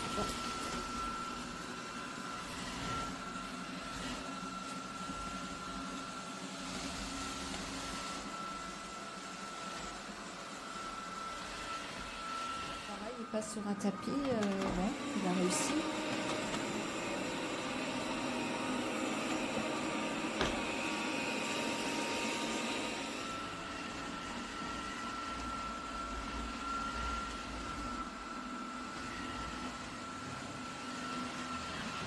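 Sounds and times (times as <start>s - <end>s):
robot vacuum whirring: 0.0s - 32.0s.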